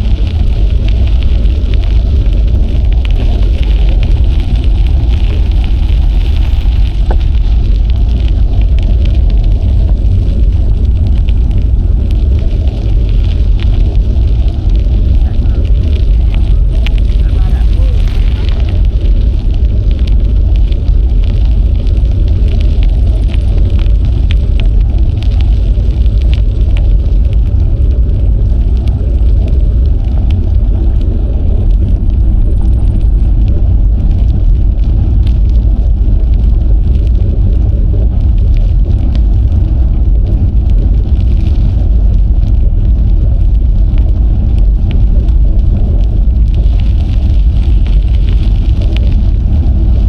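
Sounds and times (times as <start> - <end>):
wind rumbling on microphone: 0.0 - 50.0.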